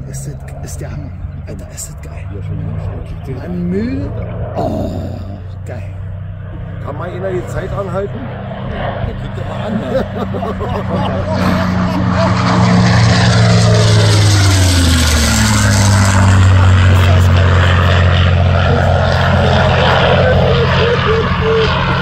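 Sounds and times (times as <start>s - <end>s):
propeller aircraft engine droning: 0.0s - 22.0s.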